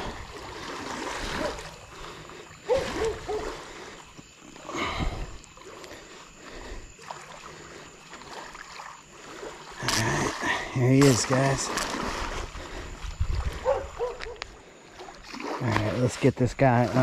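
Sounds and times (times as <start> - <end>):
fish thrashing and splashing water: 0.0 - 14.2, 14.9 - 16.1.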